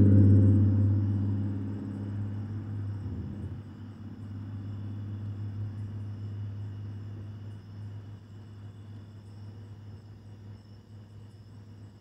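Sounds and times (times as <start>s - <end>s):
steady low hum: 0.0s - 12.0s
vehicle engine rumble: 0.0s - 12.0s.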